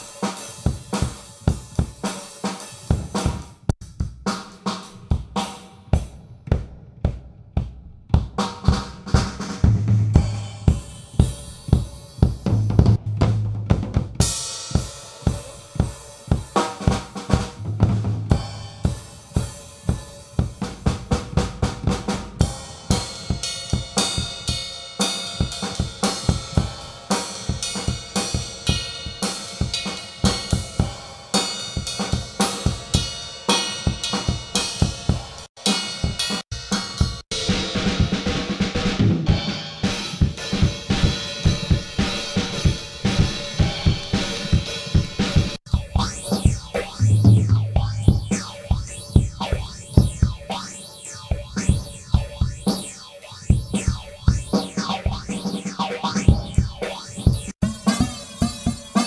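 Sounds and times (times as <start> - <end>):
drum kit groove: 0.0 - 59.0.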